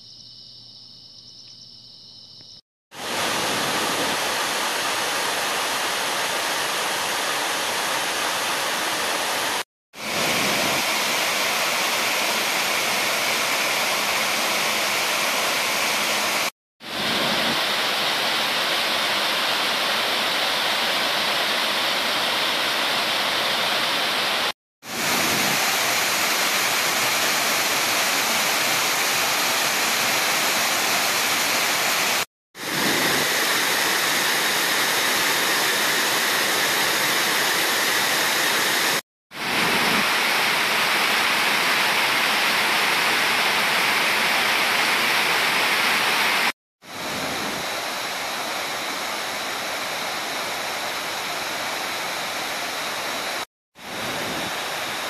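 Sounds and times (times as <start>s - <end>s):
waterfall rushing over rocks: 3.0s - 55.0s.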